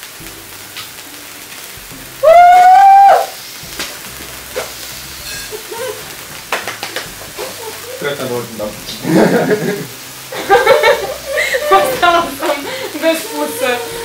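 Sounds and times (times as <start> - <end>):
cake fountains hissing sparks: 0.0 - 14.0.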